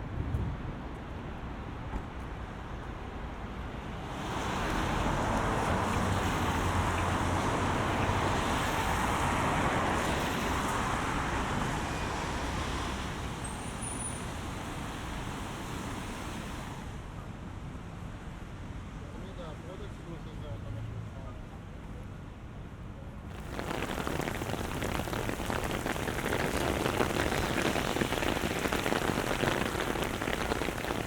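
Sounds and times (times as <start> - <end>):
rain on a wet street: 0.0 - 19.0, 23.3 - 31.0.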